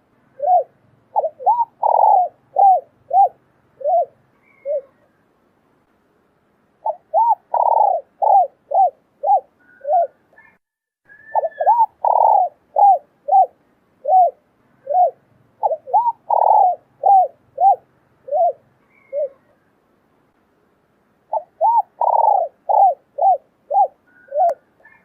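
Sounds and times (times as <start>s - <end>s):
doves cooing: 0.3s - 5.2s, 6.8s - 19.6s, 21.3s - 25.0s.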